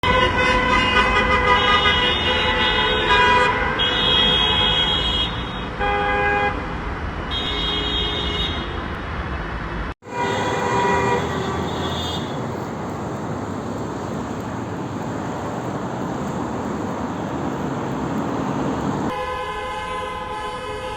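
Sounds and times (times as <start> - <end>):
car horns honking: 0.0 - 6.6, 7.3 - 8.8, 10.0 - 20.9
traffic noise: 0.0 - 20.9.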